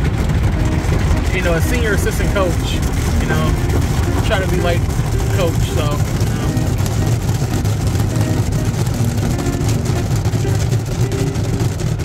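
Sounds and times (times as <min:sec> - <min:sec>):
spinning car wash brushes: 0:00.0 - 0:12.0
water spray on car: 0:00.0 - 0:12.0.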